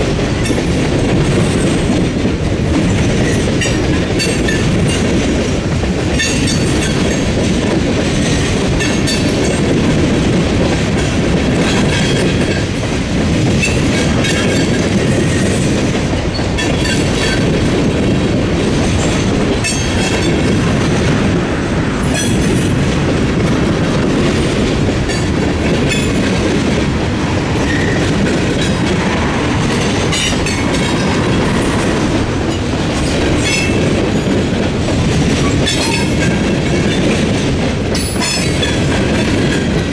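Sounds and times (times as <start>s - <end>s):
freight train rumbling past: 0.0s - 39.9s
wheels clacking on rail joints: 0.0s - 39.9s.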